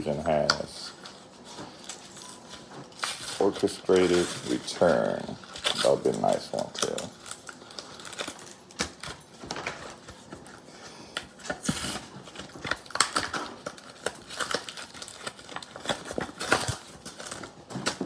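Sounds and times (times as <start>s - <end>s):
foil wrappers crinkling and tearing: 0.0s - 18.0s.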